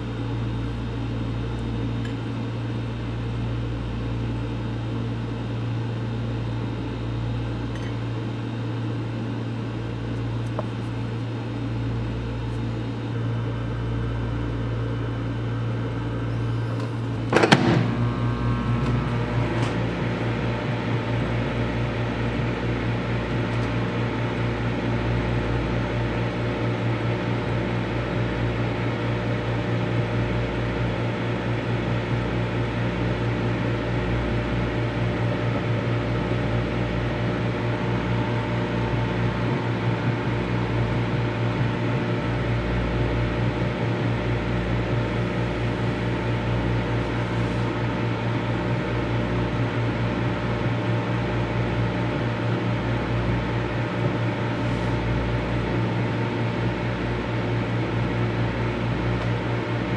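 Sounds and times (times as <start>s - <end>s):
microwave oven humming: 0.0s - 59.9s.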